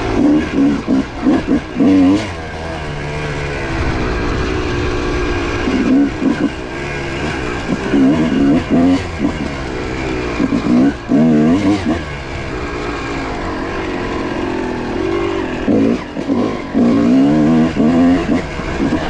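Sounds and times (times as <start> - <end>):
dirt bike two-stroke engine revving: 0.0 - 19.0.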